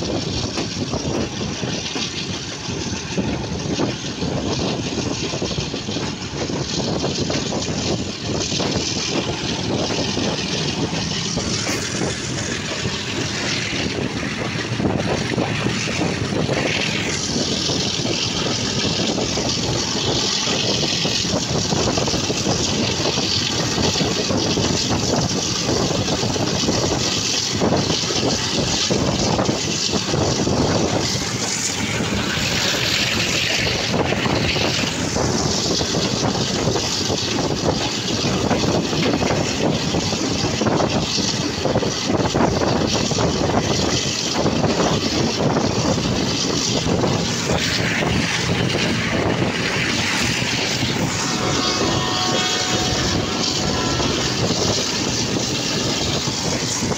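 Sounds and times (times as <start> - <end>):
train wheels clattering on track: 0.0 - 56.9
wind on microphone: 0.0 - 56.9.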